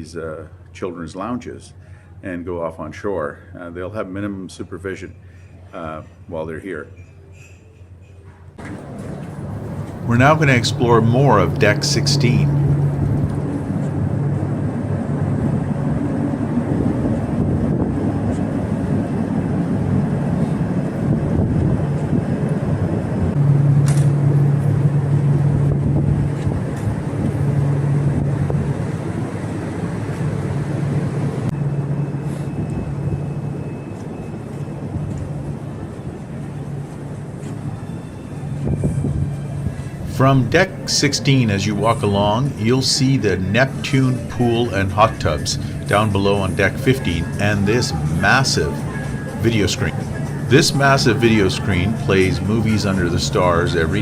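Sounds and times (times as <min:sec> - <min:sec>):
low hum: 0:07.4 - 0:54.0
rushing wind ambience: 0:08.6 - 0:54.0.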